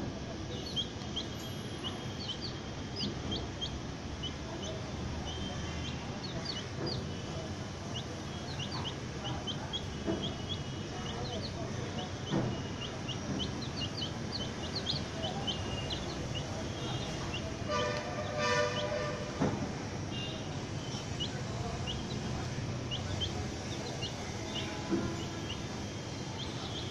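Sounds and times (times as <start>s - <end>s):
chicks peeping: 0.4s - 26.9s.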